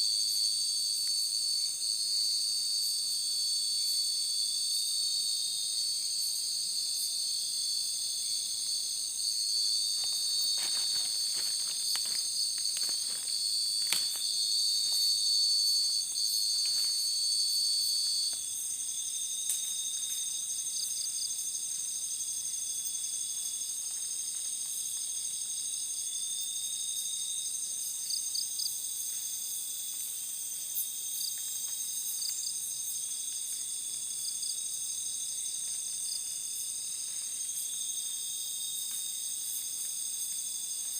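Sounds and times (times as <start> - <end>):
insects trilling: 0.0 - 40.9
pulsing insect trill: 0.0 - 40.9.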